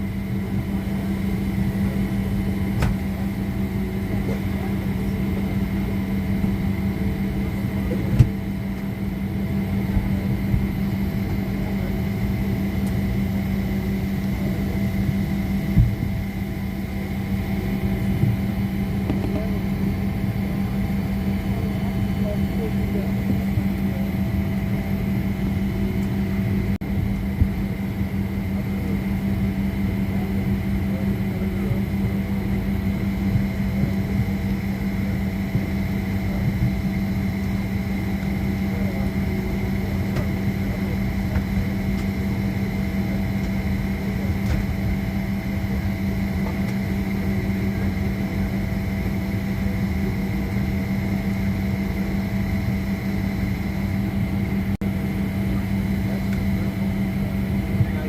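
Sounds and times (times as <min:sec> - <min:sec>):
airliner cabin mechanical hum: 0:00.0 - 0:58.0.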